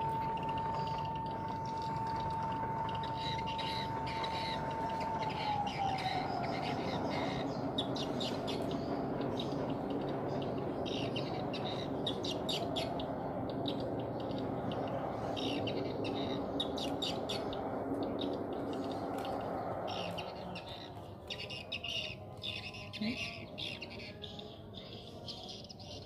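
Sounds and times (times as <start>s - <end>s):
faint hum: 0.0s - 26.0s
small birds chirping: 0.0s - 26.0s.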